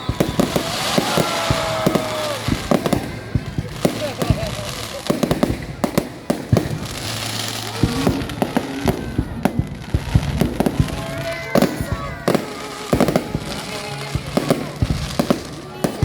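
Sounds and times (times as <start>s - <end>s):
fireworks bangs and pops: 0.0s - 16.0s
thin gliding firework tones: 0.0s - 16.0s.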